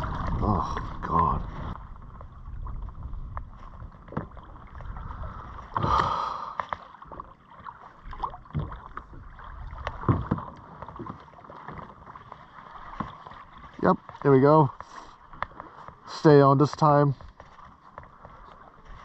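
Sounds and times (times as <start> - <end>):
water lapping against kayak hull: 0.0 - 19.0.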